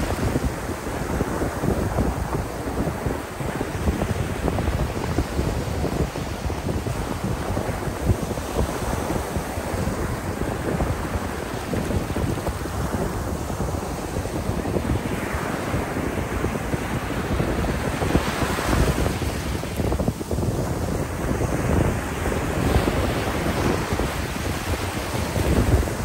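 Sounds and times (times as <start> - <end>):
sea waves on beach: 0.0 - 26.0
wind buffeting microphone: 0.0 - 26.0.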